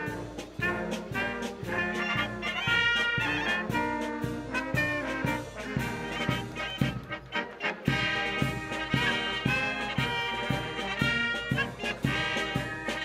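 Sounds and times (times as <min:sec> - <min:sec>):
brass band music: 0:00.0 - 0:13.0.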